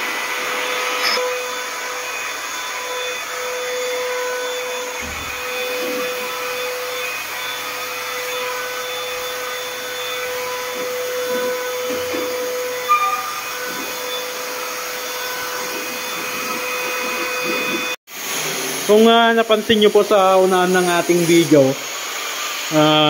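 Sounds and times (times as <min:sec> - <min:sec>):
orbital sander whining: 0:00.0 - 0:23.0.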